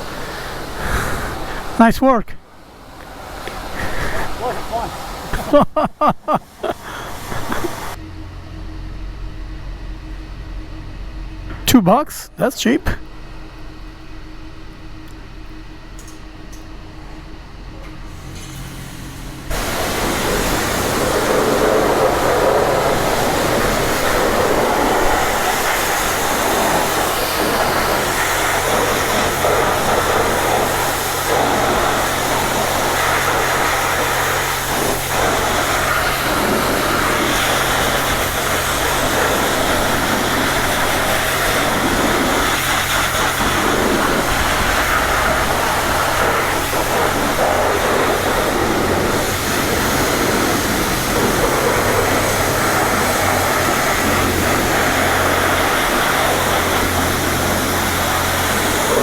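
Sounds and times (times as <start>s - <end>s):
high-pressure water spray hissing: 0.0s - 8.0s, 17.9s - 59.0s
low hum: 0.0s - 59.0s.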